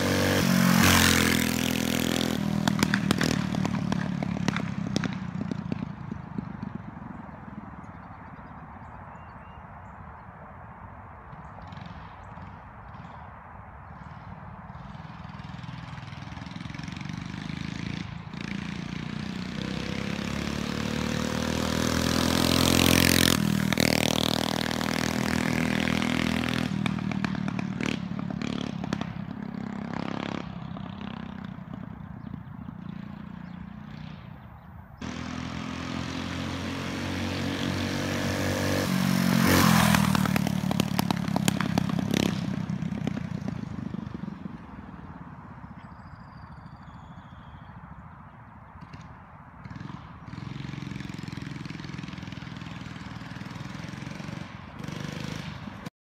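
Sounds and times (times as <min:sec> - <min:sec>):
mini bike engine passing by: 0:00.0 - 0:09.0, 0:11.4 - 0:13.2, 0:14.0 - 0:55.9.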